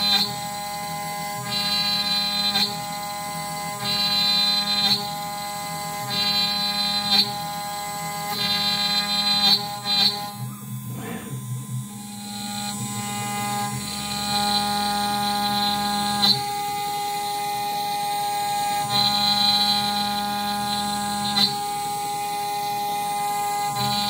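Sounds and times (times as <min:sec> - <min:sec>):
router spindle cutting wood: 0:00.0 - 0:24.0
stepper motor hum: 0:00.0 - 0:24.0.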